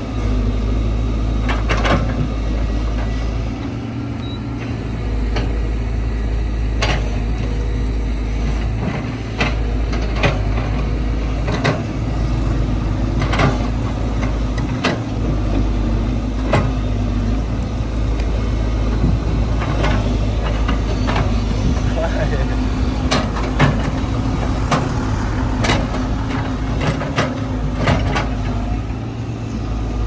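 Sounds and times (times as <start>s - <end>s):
heavy machinery engine running: 0.0s - 30.0s.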